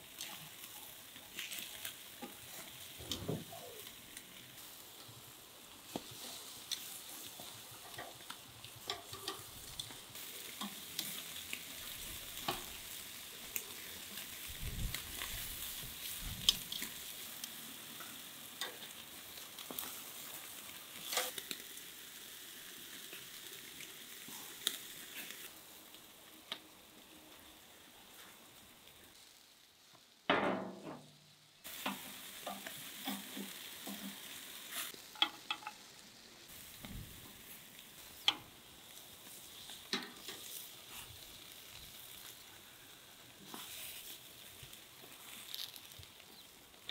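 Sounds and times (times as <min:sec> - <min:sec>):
crackles and pops: 0:00.0 - 0:05.2, 0:05.8 - 0:30.1, 0:31.6 - 0:46.9
meat sizzling on grill: 0:00.0 - 0:46.9.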